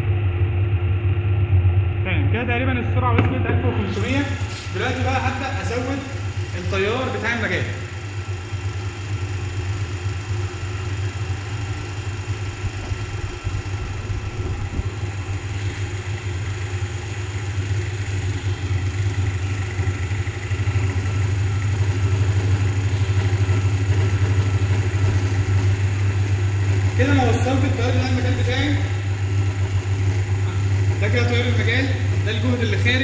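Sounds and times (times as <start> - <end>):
motor generator low hum: 0.0 - 33.0.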